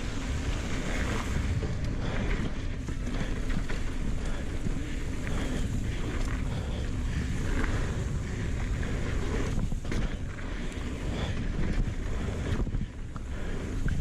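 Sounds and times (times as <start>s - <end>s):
bike rattling: 0.0s - 14.0s
wind on camera microphone: 0.0s - 14.0s.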